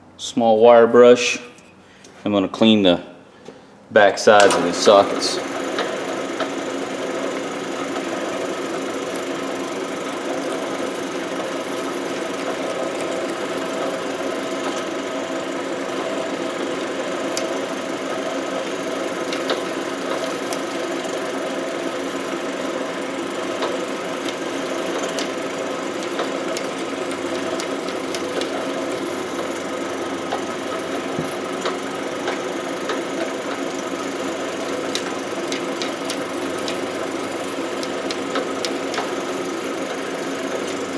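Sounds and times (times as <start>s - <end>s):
drill press motor running: 4.3s - 40.9s
wire brush scrubbing metal: 4.4s - 40.9s.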